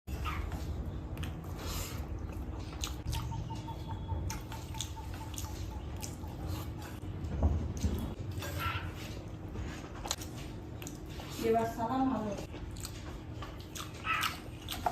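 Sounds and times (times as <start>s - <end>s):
close eating sounds: 0.1s - 14.9s
low hum: 0.1s - 14.9s.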